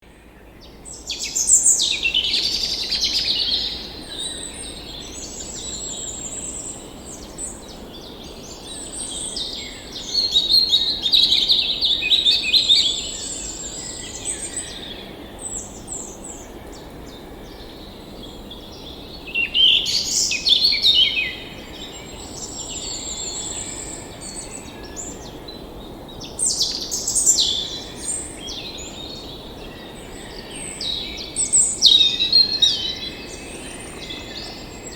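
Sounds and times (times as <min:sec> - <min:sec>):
songbirds singing and chirping: 0:00.1 - 0:34.9.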